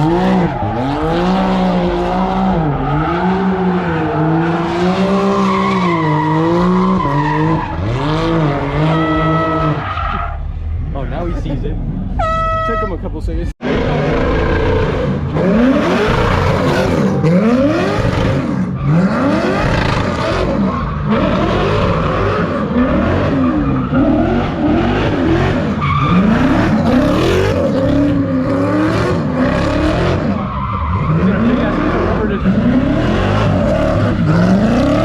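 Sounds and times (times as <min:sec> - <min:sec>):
tires spinning and squealing: 0:00.0 - 0:12.2, 0:13.6 - 0:35.0
car engine revving: 0:00.0 - 0:12.9, 0:13.6 - 0:35.0.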